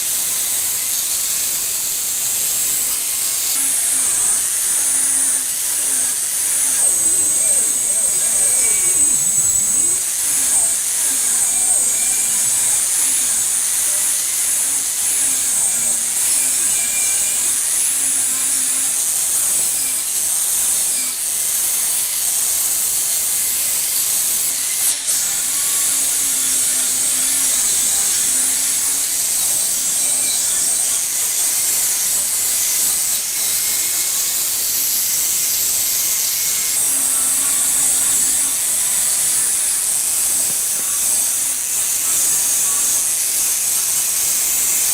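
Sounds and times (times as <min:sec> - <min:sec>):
power tool grinding: 0:00.0 - 0:44.9.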